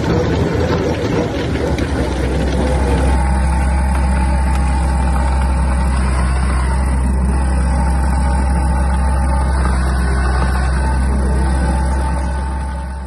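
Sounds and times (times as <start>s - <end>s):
trencher engine droning: 0.0s - 13.0s.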